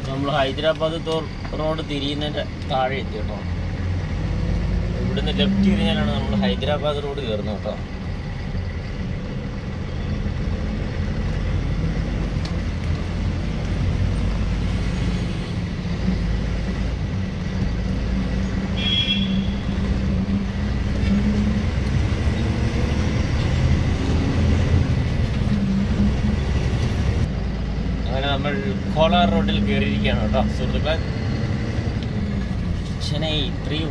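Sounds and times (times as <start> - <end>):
road noise: 0.0 - 33.9
truck diesel engine droning: 0.0 - 33.9.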